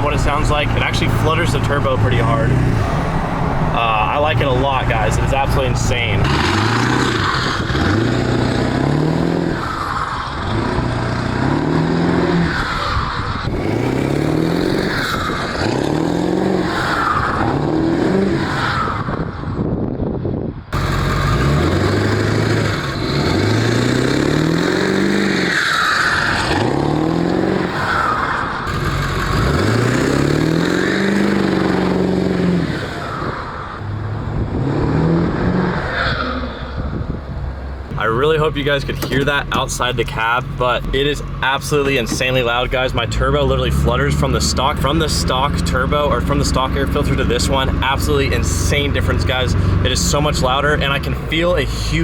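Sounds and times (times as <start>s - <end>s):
diesel engine revving: 0.0s - 19.7s, 20.7s - 52.0s.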